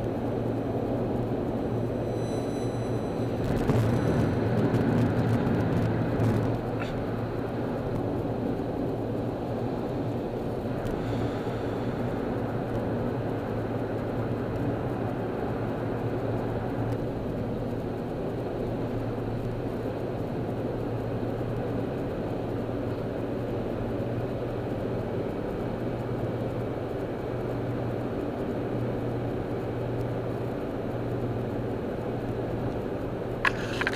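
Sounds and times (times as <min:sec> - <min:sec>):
car cabin road noise: 0:00.0 - 0:33.9
low steady hum: 0:00.0 - 0:33.9.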